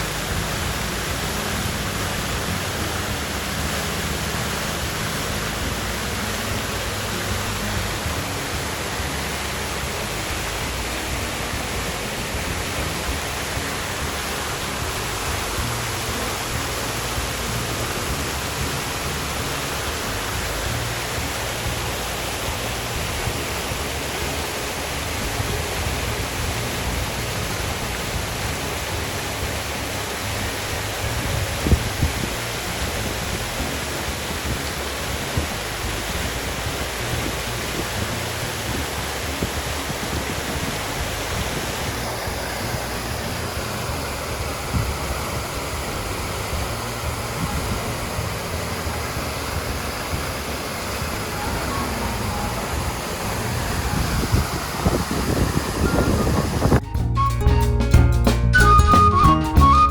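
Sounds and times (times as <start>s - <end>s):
fountain water splashing: 0.0s - 56.8s.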